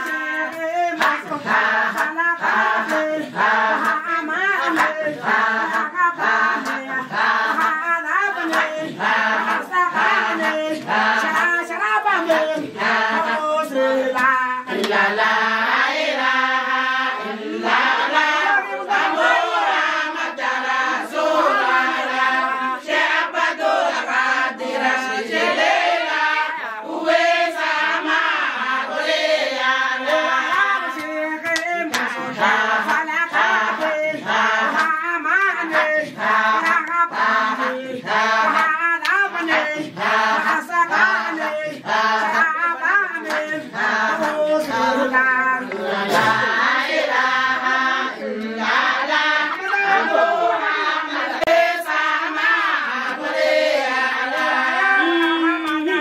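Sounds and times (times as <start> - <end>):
group singing a chant: 0.0 - 56.0
rhythmic claps or drum strikes: 0.0 - 56.0.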